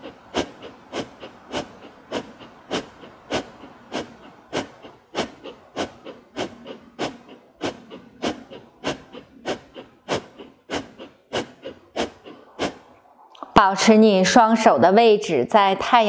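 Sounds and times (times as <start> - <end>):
woman breathing rapidly: 0.0 - 13.1.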